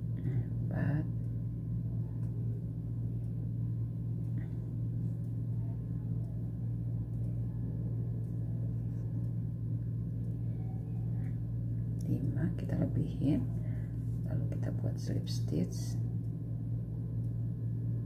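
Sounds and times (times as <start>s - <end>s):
low hum with faint whine: 0.0s - 18.0s.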